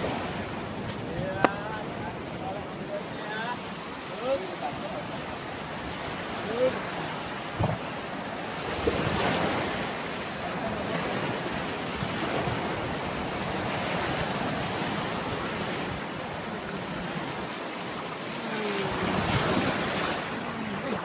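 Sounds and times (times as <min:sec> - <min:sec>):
surf washing and breaking: 0:00.0 - 0:21.0.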